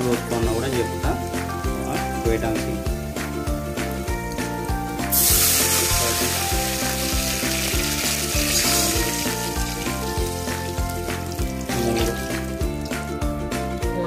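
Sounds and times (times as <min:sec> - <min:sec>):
water sizzling in hot oil: 0:00.0 - 0:13.1
background music with beat: 0:00.0 - 0:14.0.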